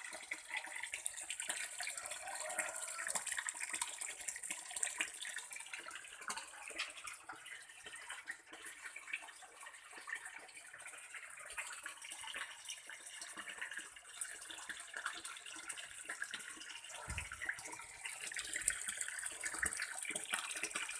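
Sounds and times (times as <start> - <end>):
water trickling into a pond: 0.0 - 20.9.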